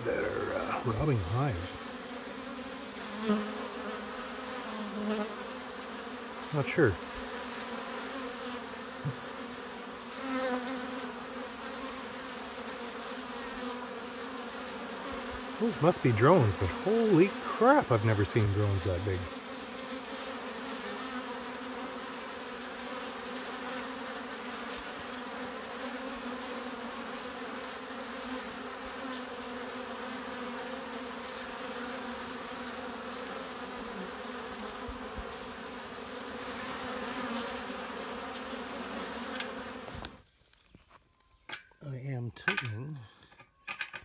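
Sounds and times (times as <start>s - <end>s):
honey bees buzzing: 0.0s - 40.3s.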